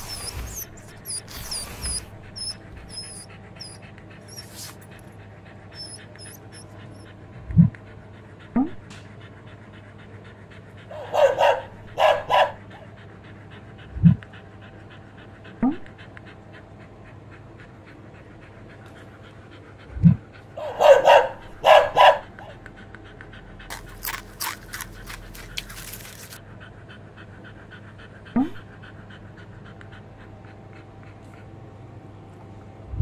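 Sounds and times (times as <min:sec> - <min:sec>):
dog panting: 0:00.0 - 0:32.8.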